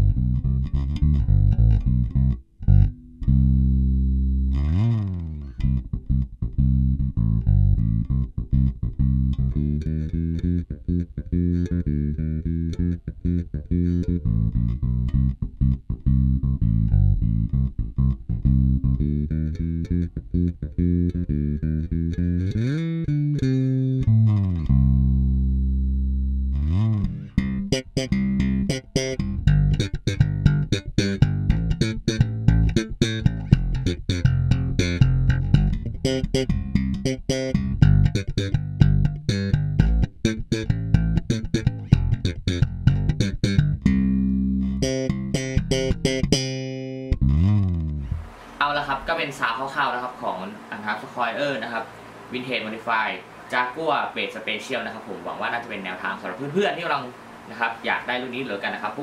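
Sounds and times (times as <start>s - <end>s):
bass guitar plucked fingerstyle: 0.0s - 51.8s
bass guitar slides: 0.0s - 52.8s.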